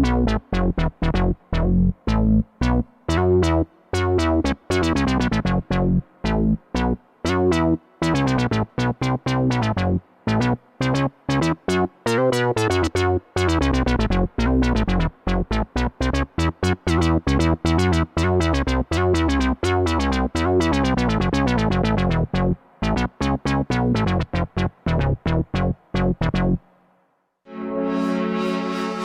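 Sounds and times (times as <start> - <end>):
low synth bass notes: 0.0 - 26.6
synthesizer plucky sequenced notes: 0.0 - 26.6, 27.5 - 29.0.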